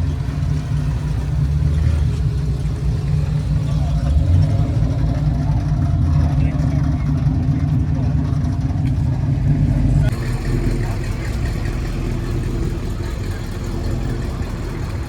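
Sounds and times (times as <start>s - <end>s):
car engine rumbling: 0.0s - 15.0s
faint voices: 0.0s - 15.0s.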